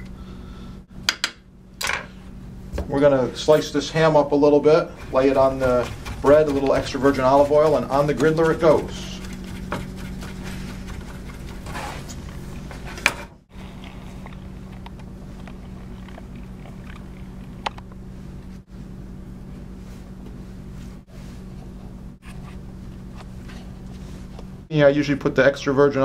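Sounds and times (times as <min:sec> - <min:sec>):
low hum: 0:00.0 - 0:24.7.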